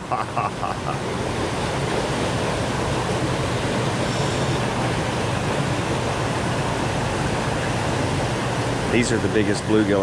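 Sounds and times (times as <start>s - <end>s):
turbulent water rushing: 0.0s - 10.0s.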